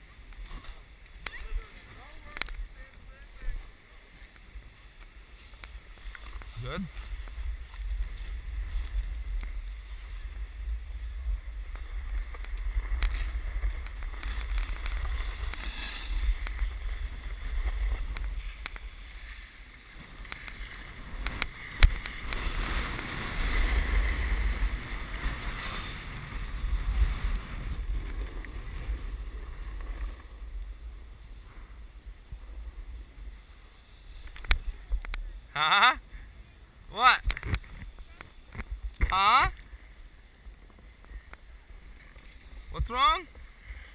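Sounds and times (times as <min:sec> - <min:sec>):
snowboard sliding on snow: 0:00.0 - 0:35.5
wind rushing over microphone: 0:00.0 - 0:35.5.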